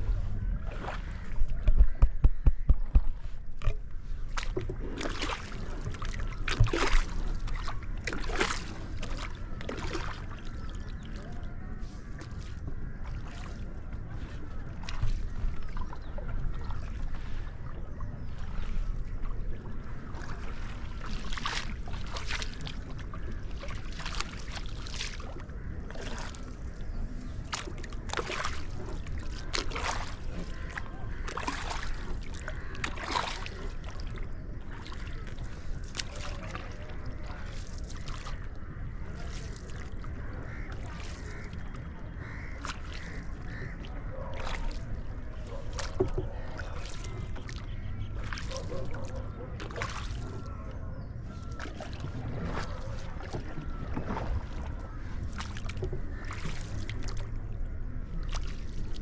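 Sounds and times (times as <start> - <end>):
paddle splashing in water: 0.0 - 59.0.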